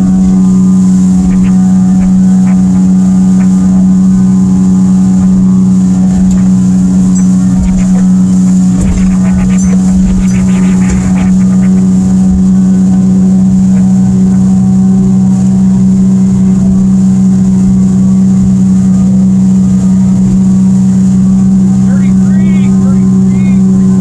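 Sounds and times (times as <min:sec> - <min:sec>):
outboard motor droning: 0:00.0 - 0:24.0
water rushing: 0:00.0 - 0:24.0.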